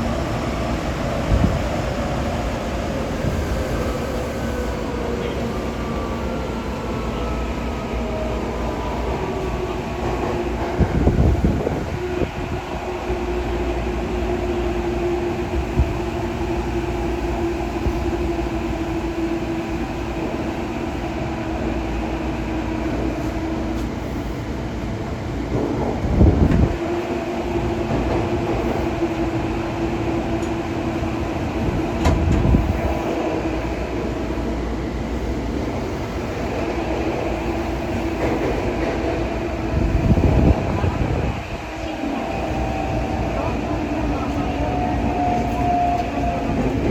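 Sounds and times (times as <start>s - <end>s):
subway train wheels rumbling: 0.0s - 46.9s.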